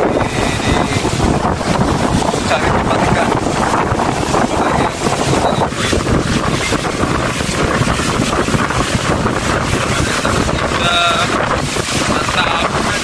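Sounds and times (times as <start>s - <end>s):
water streaming past boat hull: 0.0s - 13.0s
wind buffeting microphone: 0.0s - 13.0s.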